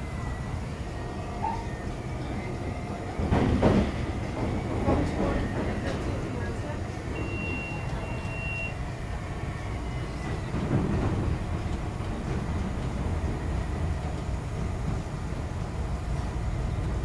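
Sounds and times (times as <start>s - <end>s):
train wheels rumbling on rail: 0.0s - 17.0s
train clatter: 1.3s - 17.0s.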